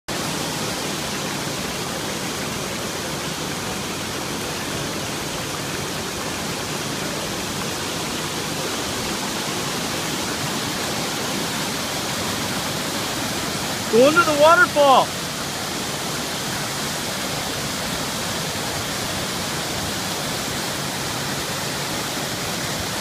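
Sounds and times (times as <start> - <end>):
waterfall splashing into pool: 0.1 - 23.0.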